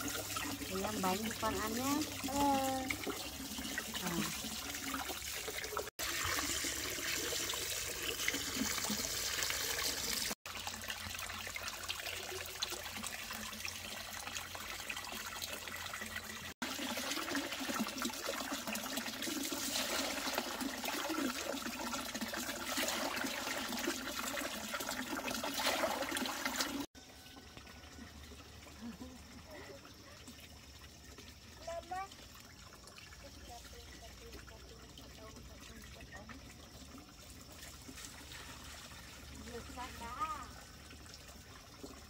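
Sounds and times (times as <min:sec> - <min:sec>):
water running and splashing: 0:00.0 - 0:42.0.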